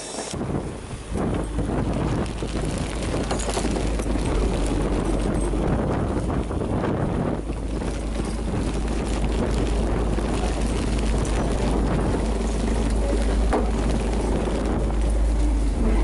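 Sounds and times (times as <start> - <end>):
rushing water: 0.3 - 16.0
wind buffeting microphone: 0.3 - 16.0.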